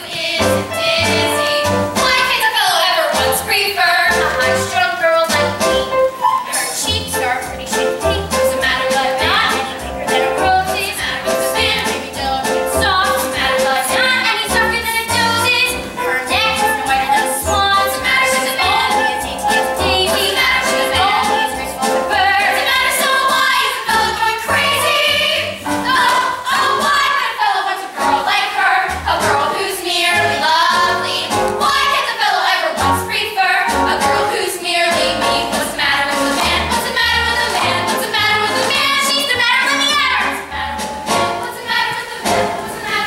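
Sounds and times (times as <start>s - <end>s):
girls singing together: 0.0s - 43.0s
musical accompaniment: 0.0s - 43.0s.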